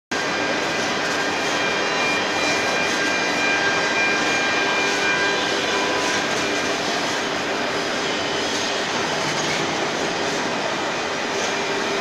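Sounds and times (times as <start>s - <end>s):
carving machine spindle whine: 0.2s - 12.0s.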